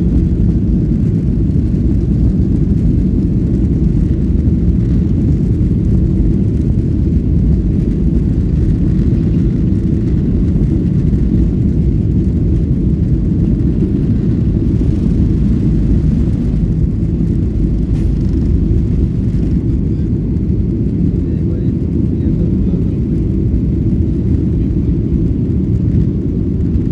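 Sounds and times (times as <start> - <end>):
airplane engine rumble: 0.0 - 26.9.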